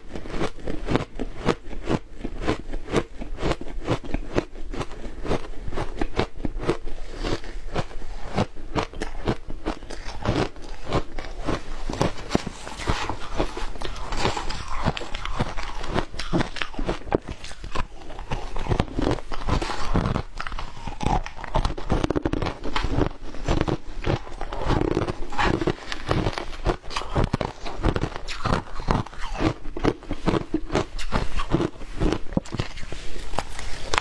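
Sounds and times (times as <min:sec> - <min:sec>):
ice being chewed: 0:00.0 - 0:34.0.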